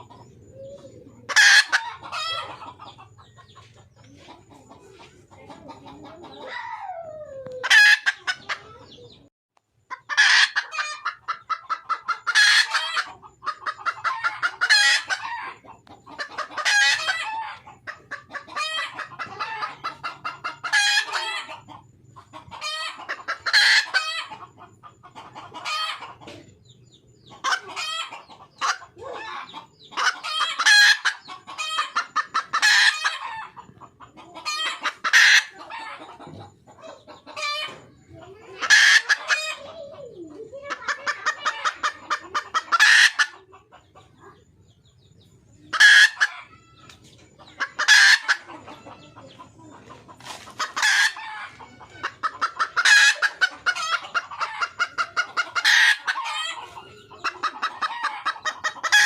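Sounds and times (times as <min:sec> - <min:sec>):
hen clucking: 0:00.0 - 0:59.0.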